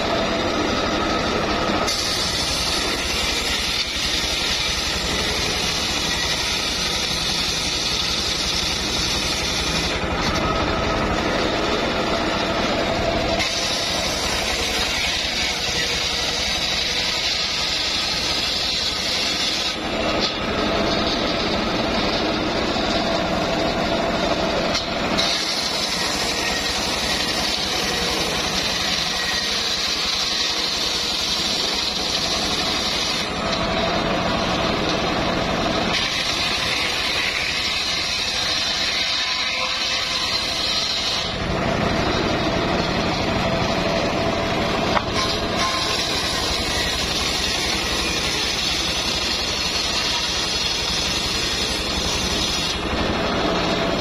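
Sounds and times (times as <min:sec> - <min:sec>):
circular saw ripping wood: 0:00.0 - 0:54.0.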